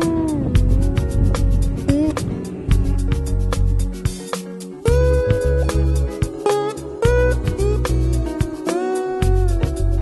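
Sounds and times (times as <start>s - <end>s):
song with guitar bass and drums: 0.0s - 10.0s.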